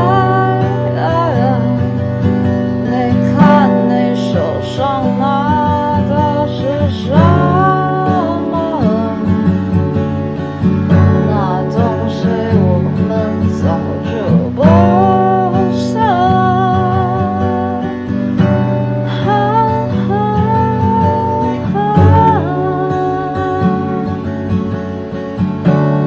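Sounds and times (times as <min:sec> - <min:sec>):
person singing: 0:00.0 - 0:09.9, 0:11.0 - 0:24.8
acoustic guitar strumming: 0:00.0 - 0:26.0.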